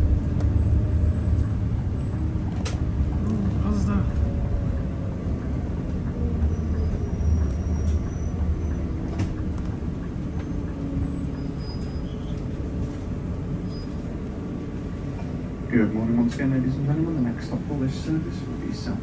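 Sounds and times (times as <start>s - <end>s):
coach engine and tyres rumbling: 0.0s - 19.0s.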